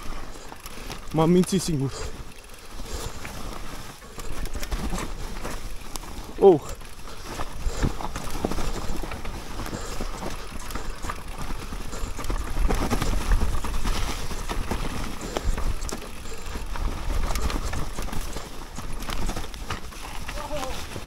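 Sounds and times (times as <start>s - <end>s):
bike tyres rolling over leaves: 0.0s - 21.0s
low wind rumble: 2.1s - 21.0s
bike knocks and rattles: 2.2s - 21.0s.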